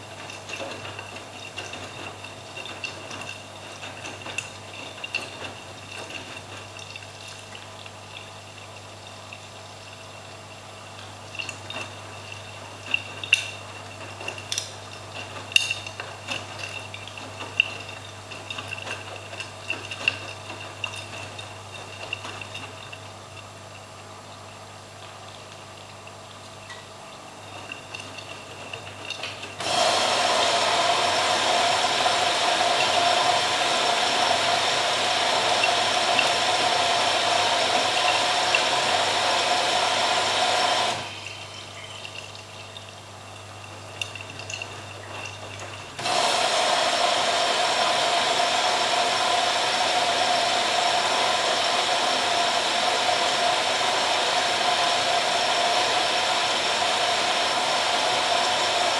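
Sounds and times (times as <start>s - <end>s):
water rushing into washing machine: 0.0s - 58.9s.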